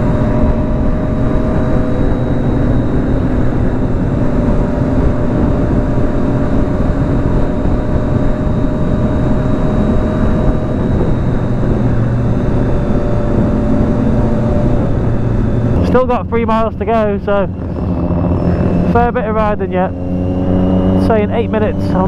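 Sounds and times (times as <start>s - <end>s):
motorcycle engine running: 0.0s - 22.0s
steady rushing noise: 0.0s - 22.0s.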